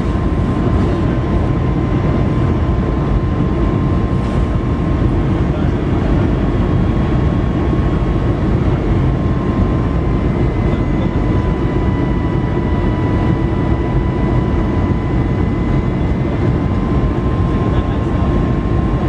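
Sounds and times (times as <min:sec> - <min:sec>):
jet engine roar: 0:00.0 - 0:19.0
thin steady whine: 0:00.0 - 0:19.0.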